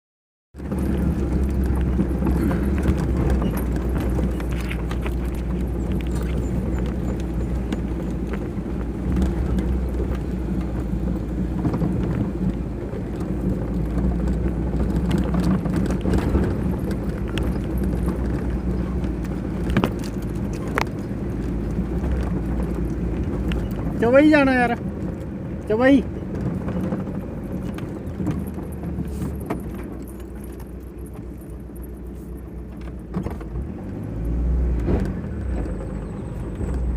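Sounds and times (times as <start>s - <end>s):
vehicle engine and tyres rumbling: 0.5s - 36.9s
knocks and rattles: 0.6s - 34.2s.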